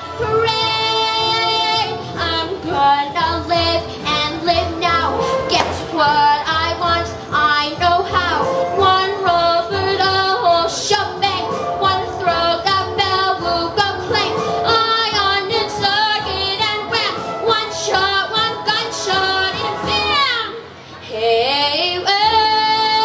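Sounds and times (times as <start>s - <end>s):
girl singing into a microphone: 0.0s - 23.0s.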